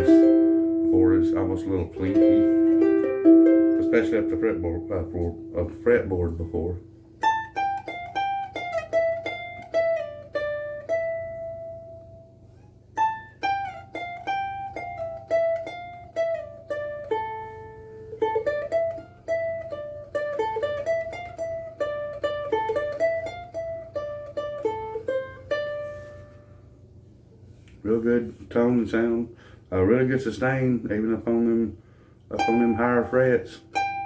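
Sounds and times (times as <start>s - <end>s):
ukulele fingerpicked melody: 0.0s - 26.5s, 32.3s - 34.0s.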